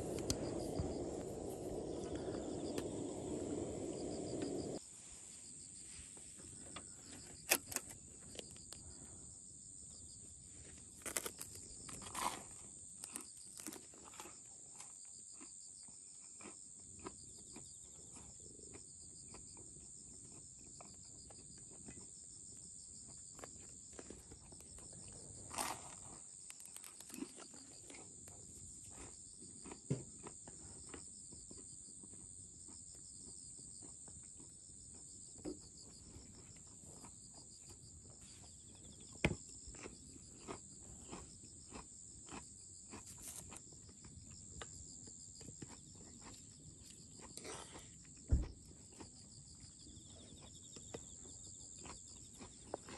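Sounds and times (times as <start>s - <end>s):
insects chirping: 0.0s - 52.9s.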